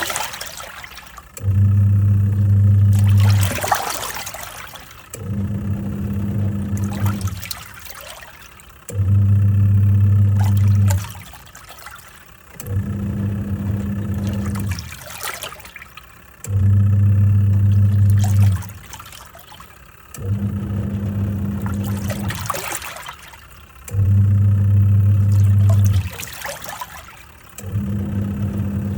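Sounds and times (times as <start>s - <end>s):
water sloshing: 0.0s - 1.6s, 2.3s - 9.2s, 10.2s - 16.6s, 17.5s - 24.4s, 25.0s - 28.9s
washing machine motor humming: 0.0s - 28.9s.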